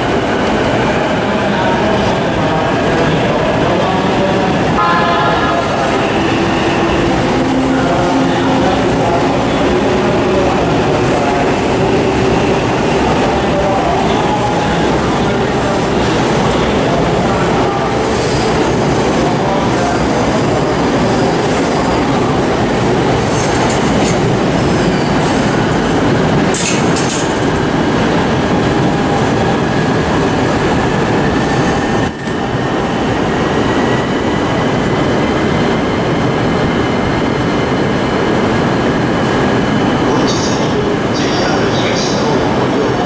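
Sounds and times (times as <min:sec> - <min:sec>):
train wheel-on-rail rumble: 0:00.0 - 0:43.0.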